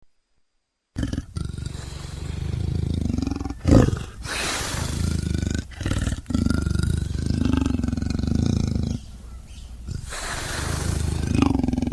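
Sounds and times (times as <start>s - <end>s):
leopard growling: 1.0s - 9.1s, 9.8s - 11.9s
breathy hiss: 1.0s - 11.9s.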